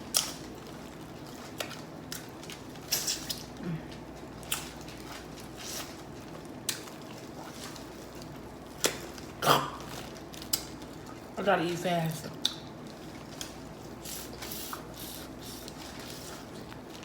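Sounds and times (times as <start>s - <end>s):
wet chewing sounds: 0.0s - 11.4s, 12.3s - 17.0s.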